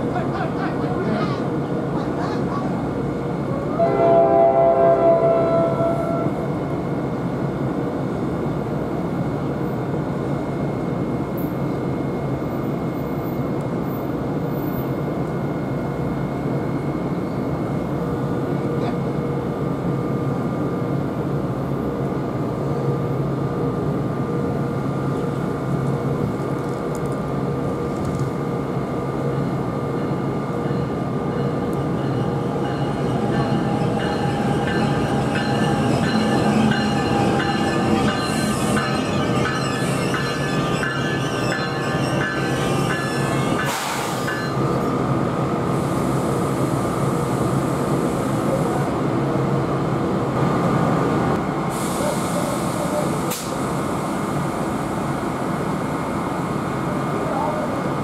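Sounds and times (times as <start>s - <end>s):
train rumbling on tracks: 0.0s - 58.0s.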